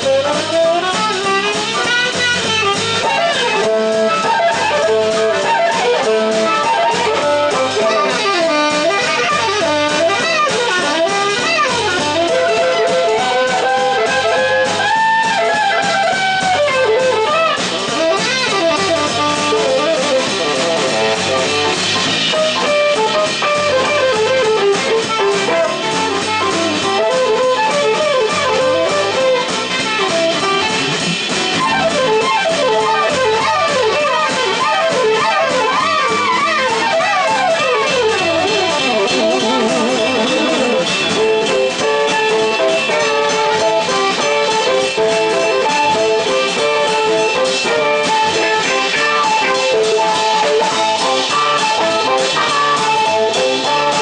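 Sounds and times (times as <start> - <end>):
drum kit: 0.0 - 54.0
jazz band playing: 0.0 - 54.0
tenor saxophone: 0.0 - 54.0.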